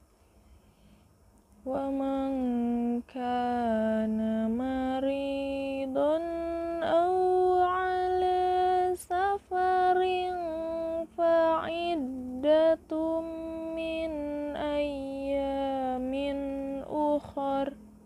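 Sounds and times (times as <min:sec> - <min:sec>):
woman reciting melodically: 0:01.6 - 0:18.0.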